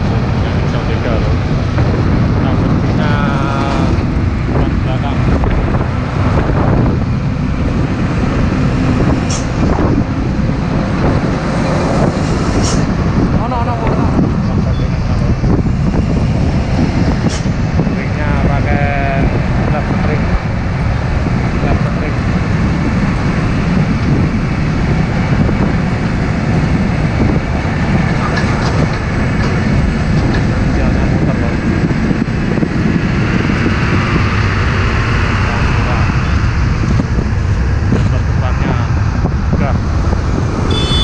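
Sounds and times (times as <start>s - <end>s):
truck rumbling at highway speed: 0.0s - 41.0s
wind on microphone: 0.0s - 41.0s.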